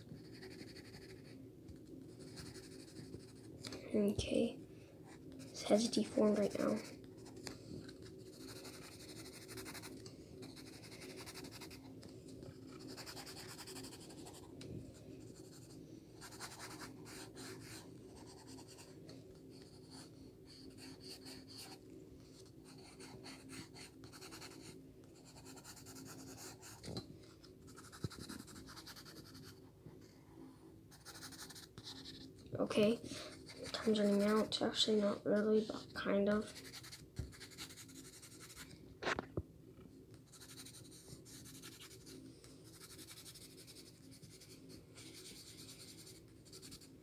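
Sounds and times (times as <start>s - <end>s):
pencil scratching on paper: 0.0s - 1.4s, 2.0s - 3.5s, 5.1s - 11.9s, 12.5s - 14.5s, 15.2s - 27.0s, 27.6s - 29.6s, 30.9s - 38.7s, 40.3s - 47.0s.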